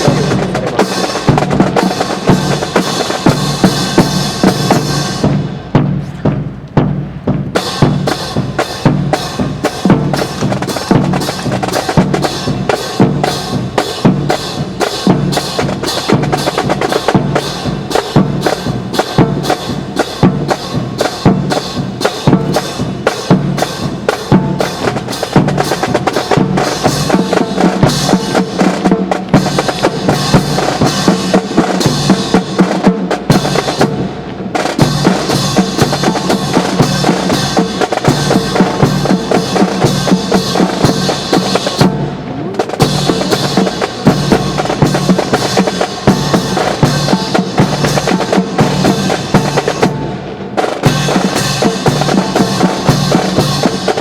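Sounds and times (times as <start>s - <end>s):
marching snare and bass drums: 0.0s - 54.0s.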